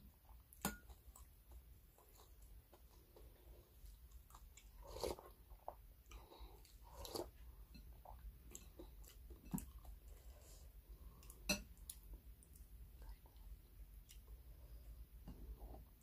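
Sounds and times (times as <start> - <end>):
person chewing: 0.5 - 14.5.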